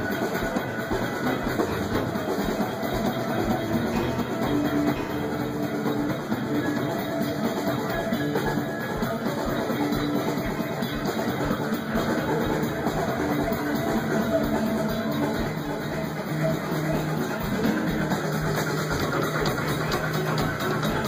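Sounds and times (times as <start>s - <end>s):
electric guitar: 0.0s - 21.0s
rock music: 0.0s - 21.0s.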